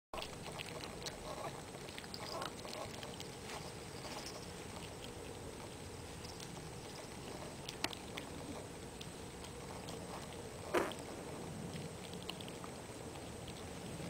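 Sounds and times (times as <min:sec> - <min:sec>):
dog gnawing on chew: 0:00.2 - 0:14.0.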